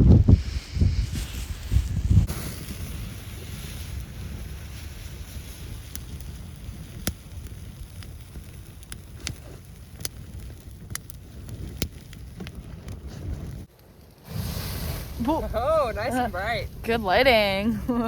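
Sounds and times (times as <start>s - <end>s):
wind buffeting microphone: 0.0s - 18.0s
sharp crackles and clicks: 0.4s - 17.4s.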